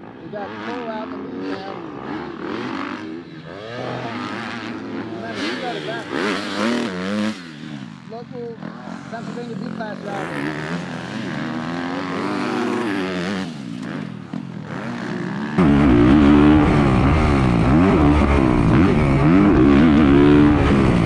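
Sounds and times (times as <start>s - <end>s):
dirt bike engine revving: 0.4s - 21.0s.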